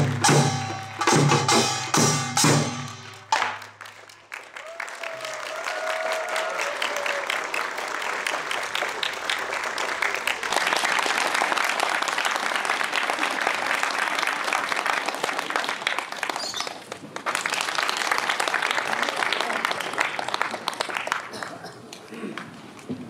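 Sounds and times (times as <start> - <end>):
crowd applauding: 3.0 - 22.9.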